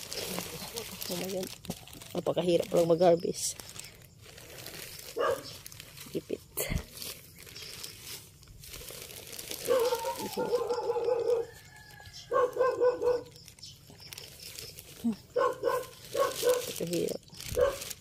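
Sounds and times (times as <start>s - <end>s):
plastic sheeting crinkling: 0.0s - 18.0s.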